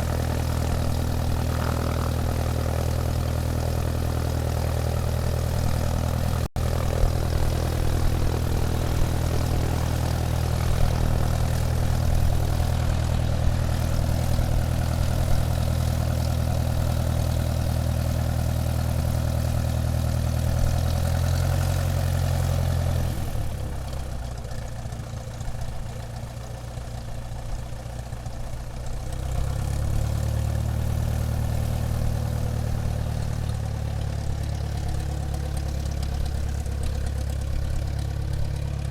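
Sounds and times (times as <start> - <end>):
airplane engine running: 0.0 - 23.8, 29.1 - 38.9.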